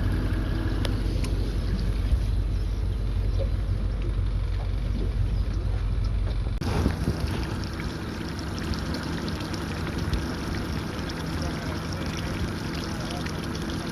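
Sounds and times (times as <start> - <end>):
exhaust water splashing: 0.0 - 13.9
outboard motor idling roughly: 0.0 - 13.9.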